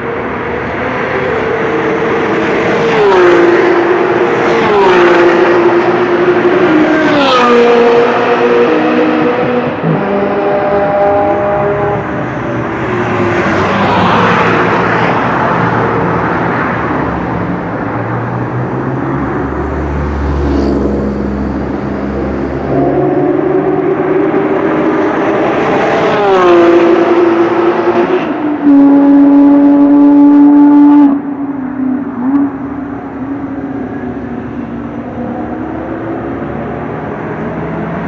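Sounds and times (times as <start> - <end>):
racing cars passing at speed: 0.0 - 38.0.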